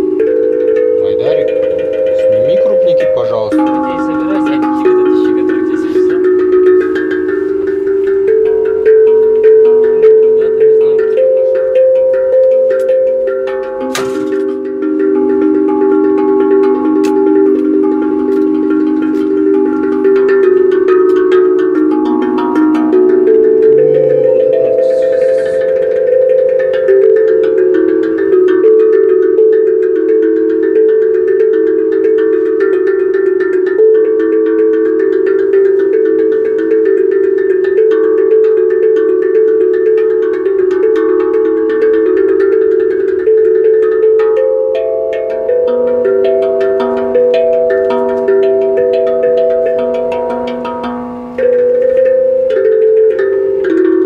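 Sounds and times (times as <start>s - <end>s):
tuned percussion melody: 0.0s - 54.0s.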